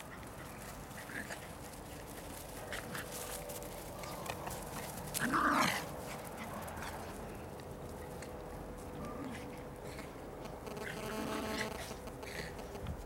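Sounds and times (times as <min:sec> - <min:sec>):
small dogs playing: 0:00.0 - 0:12.8.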